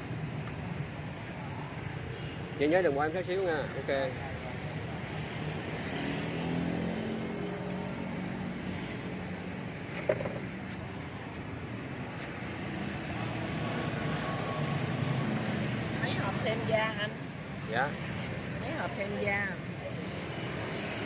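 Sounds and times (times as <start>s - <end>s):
street traffic drone: 0.0s - 21.0s.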